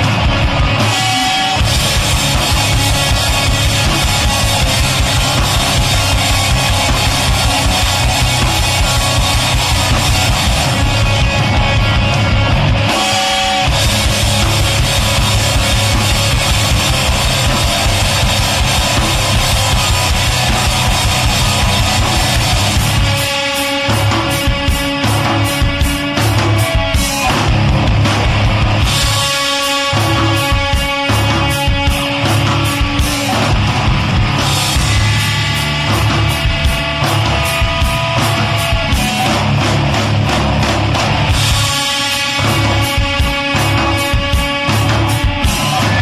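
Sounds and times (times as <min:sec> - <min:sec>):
rock song with drums and guitar: 0:00.0 - 0:46.0.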